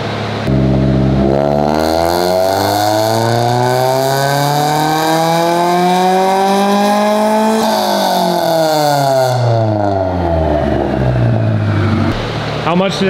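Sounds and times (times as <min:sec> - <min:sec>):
car engine revving under load: 0:00.0 - 0:12.8.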